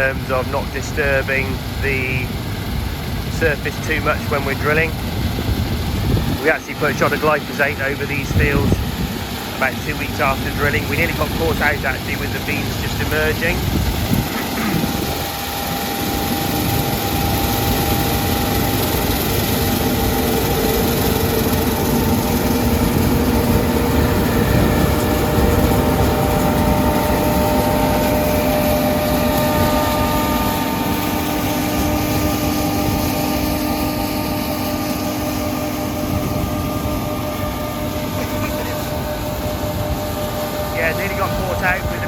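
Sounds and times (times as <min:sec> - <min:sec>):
combine harvester engine drone: 0:00.0 - 0:42.0
steady whining tones: 0:00.0 - 0:42.0.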